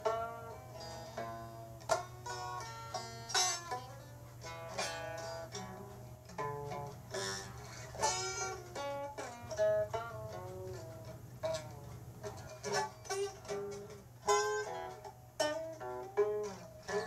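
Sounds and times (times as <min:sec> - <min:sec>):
guitar plucked melody: 0:00.0 - 0:17.0
steady low hum: 0:00.0 - 0:17.0.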